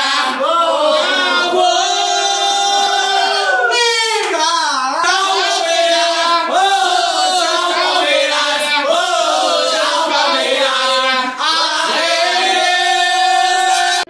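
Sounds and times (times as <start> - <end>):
group of voices chanting: 0.0 - 14.0.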